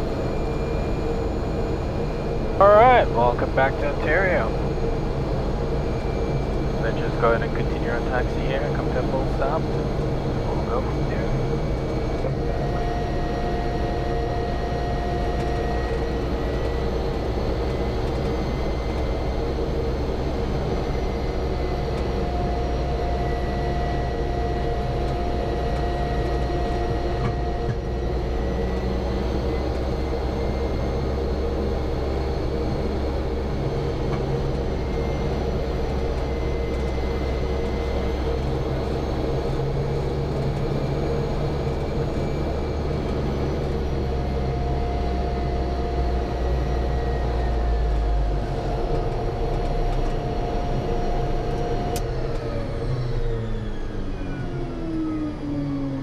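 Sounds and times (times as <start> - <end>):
turboprop engine whine and rumble: 0.0 - 56.0.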